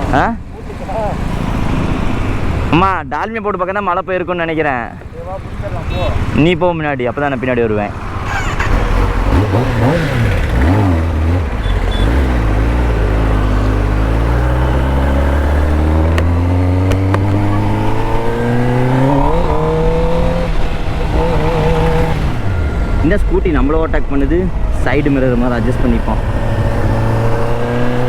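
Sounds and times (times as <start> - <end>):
motorcycle engine revving: 0.0 - 2.7, 5.0 - 28.0.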